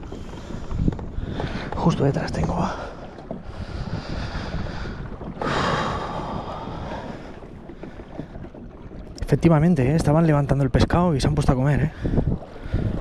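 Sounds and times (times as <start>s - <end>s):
water noise: 0.0s - 13.0s
wind on microphone: 0.0s - 13.0s.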